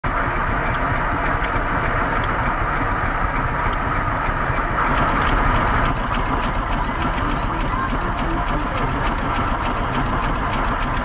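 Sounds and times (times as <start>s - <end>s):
belt-driven circular saw running: 0.1s - 11.0s.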